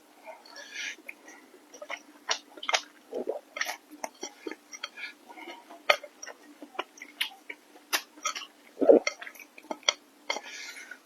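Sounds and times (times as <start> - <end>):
wet chewing sounds: 0.3 - 11.0.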